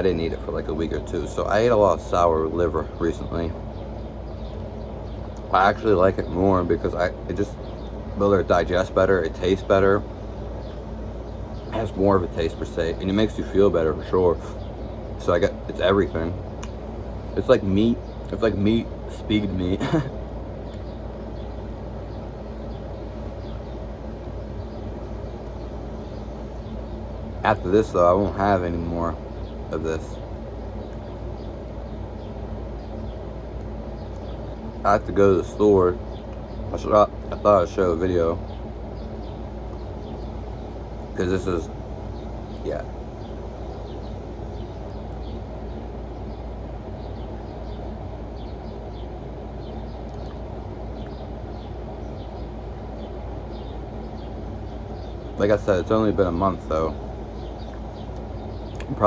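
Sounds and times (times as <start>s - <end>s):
low background hum: 0.0s - 59.0s
small birds chirping: 0.0s - 59.0s.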